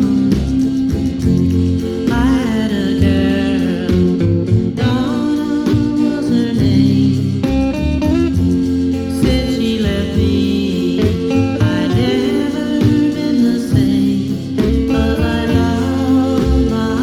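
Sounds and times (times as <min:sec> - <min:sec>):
rock and roll record with guitar: 0:00.0 - 0:17.0.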